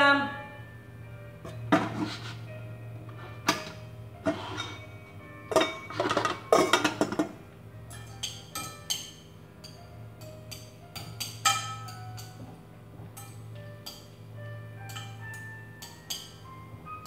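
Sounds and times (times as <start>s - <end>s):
soft background music: 0.0s - 17.0s
dishes and pots clinking: 1.4s - 2.4s, 3.1s - 16.6s.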